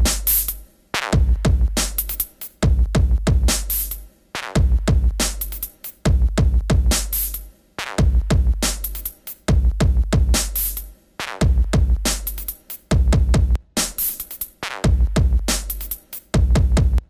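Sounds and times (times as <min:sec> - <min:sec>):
electronic music with drum-machine beat: 0:00.0 - 0:17.0.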